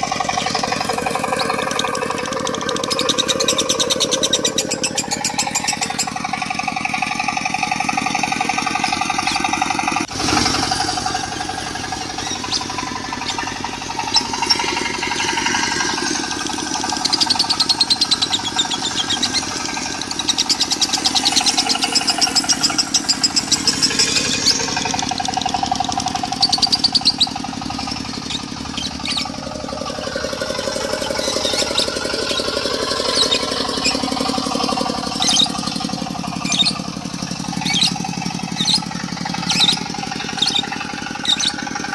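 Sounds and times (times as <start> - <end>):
diesel engine knocking: 0.0 - 41.9
lovebird buzzing chatter: 0.0 - 41.9.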